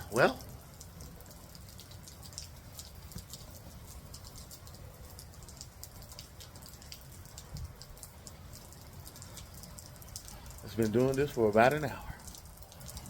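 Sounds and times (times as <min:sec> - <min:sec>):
rain falling: 0:00.0 - 0:13.0
sharp raindrop ticks: 0:00.0 - 0:13.0.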